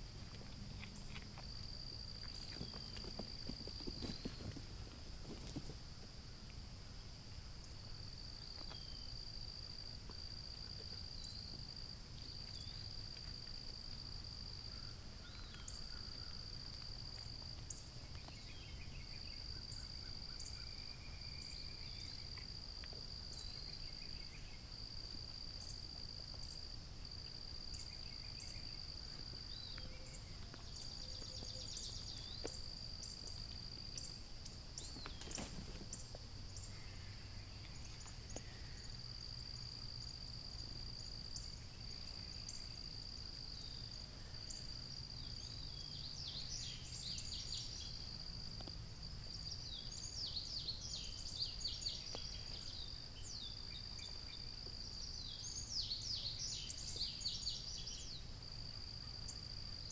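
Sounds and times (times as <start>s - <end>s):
insects trilling: 0.0s - 6.2s, 7.0s - 59.9s
insect chirps: 0.0s - 59.9s.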